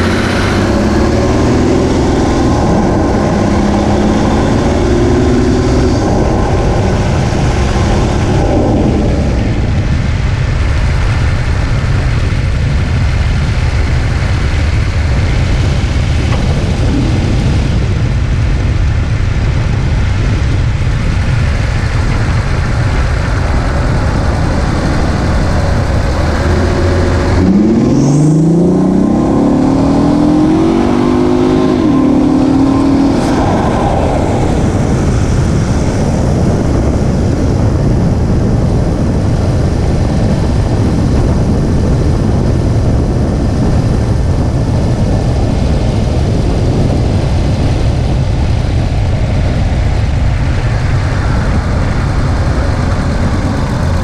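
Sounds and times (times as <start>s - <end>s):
car engine revving: 0.0s - 48.0s, 48.7s - 54.0s
road and wind noise: 0.0s - 54.0s.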